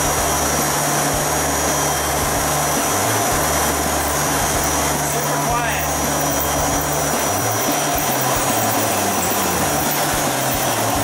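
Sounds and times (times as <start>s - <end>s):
concrete grinder motor drone: 0.0s - 11.0s
high vacuum whine: 0.0s - 11.0s.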